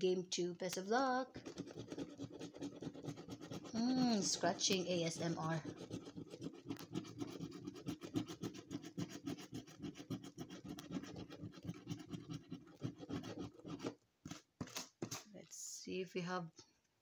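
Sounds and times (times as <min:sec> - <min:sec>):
scratchcard being scraped: 0:01.3 - 0:15.3.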